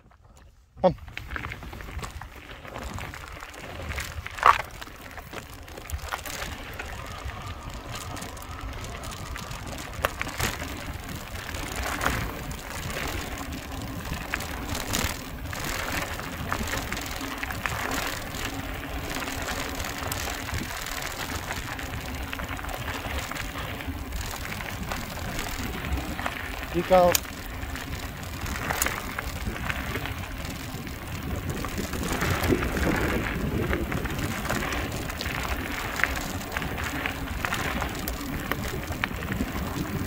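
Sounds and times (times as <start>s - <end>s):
bike rattling and knocking: 0.0s - 40.0s
tyres crunching on gravel: 0.0s - 40.0s.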